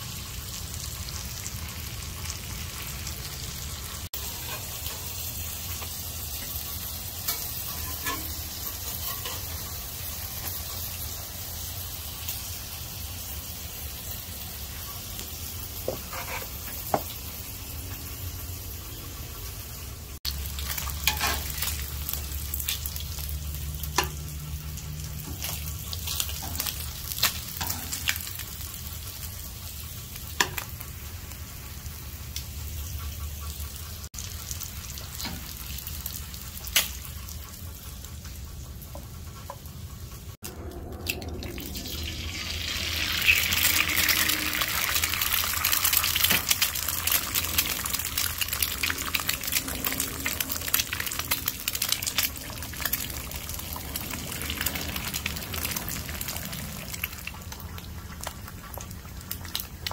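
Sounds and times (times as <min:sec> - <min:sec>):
eggs crackling on griddle: 0:00.0 - 0:18.1, 0:20.2 - 0:59.9
meat sizzling on griddle: 0:00.0 - 0:40.4, 0:41.6 - 0:59.9.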